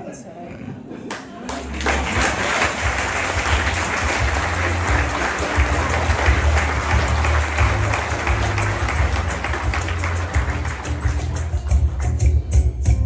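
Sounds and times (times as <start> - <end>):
audience applauding: 1.1 - 12.3
low bass music: 1.7 - 13.0.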